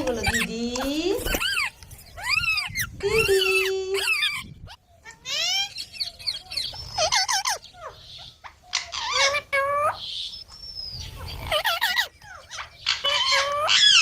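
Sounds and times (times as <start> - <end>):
parrot chirping and squawking: 0.0 - 14.0.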